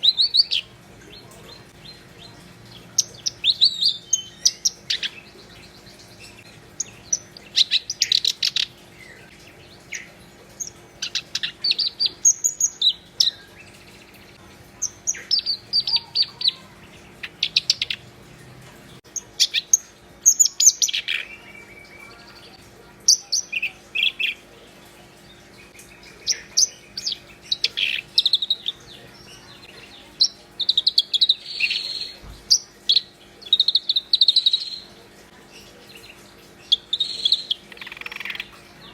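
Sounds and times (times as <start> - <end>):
reed warbler singing: 0.0 - 18.2, 19.0 - 35.0, 35.6 - 38.9.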